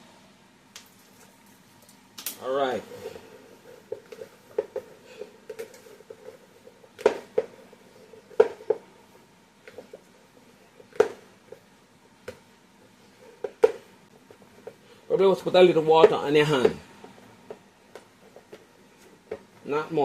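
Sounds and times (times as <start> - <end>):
hands kneading dough: 0.7 - 20.0.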